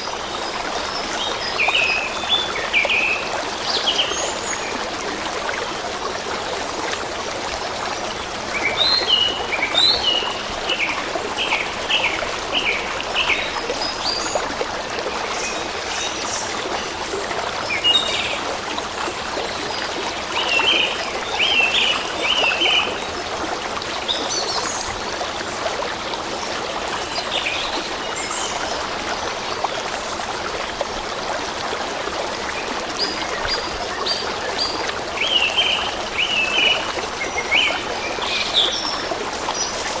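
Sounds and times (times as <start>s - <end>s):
stream of water running: 0.0s - 40.0s.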